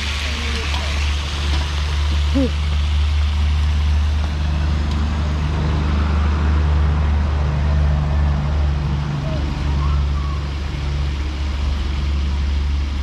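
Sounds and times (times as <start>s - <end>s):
loud low rumble: 0.0s - 13.0s.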